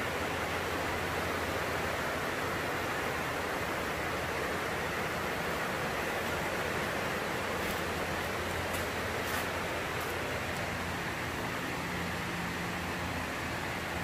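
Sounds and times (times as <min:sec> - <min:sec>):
heavy rain on plastic roof: 0:00.0 - 0:14.0.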